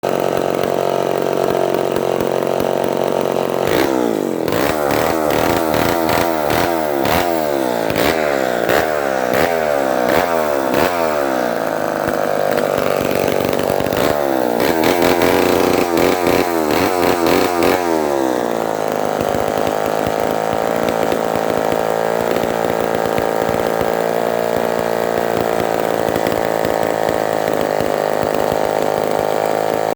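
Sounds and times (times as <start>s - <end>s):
chainsaw idling and revving: 0.0s - 29.9s.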